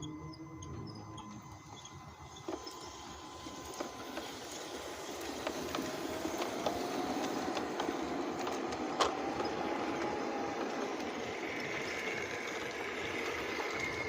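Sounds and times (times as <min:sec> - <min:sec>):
model train motor whine: 0:00.0 - 0:14.0
wheels clicking over rail joints: 0:00.0 - 0:14.0.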